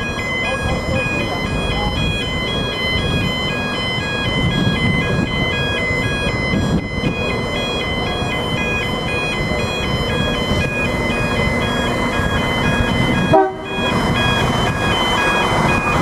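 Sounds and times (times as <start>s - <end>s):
diesel railcar rumble: 0.0s - 16.0s
level crossing warning alarm: 0.0s - 16.0s.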